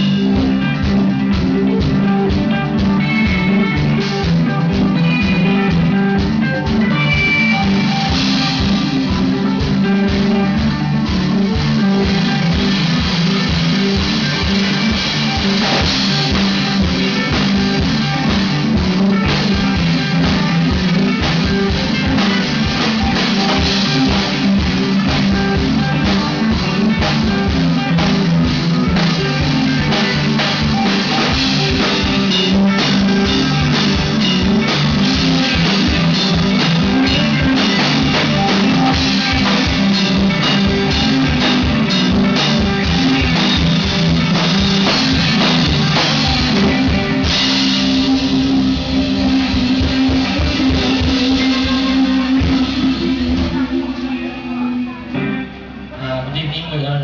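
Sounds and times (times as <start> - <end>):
drum kit beating: 0.0 - 57.0
electric guitars: 0.0 - 57.0.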